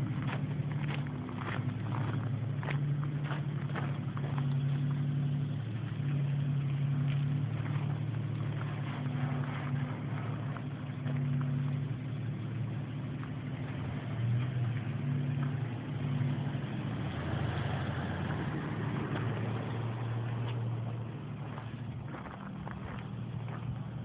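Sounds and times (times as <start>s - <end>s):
car engine pulling away: 0.0s - 24.0s.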